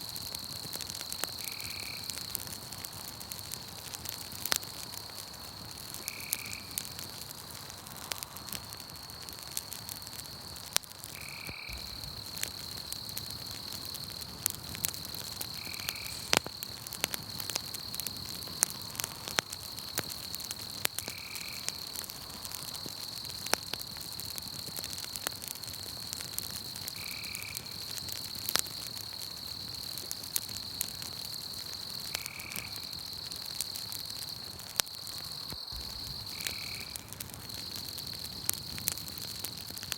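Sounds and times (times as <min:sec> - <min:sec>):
campfire crackling and popping: 0:00.0 - 0:39.9
night insect chorus: 0:00.0 - 0:39.9.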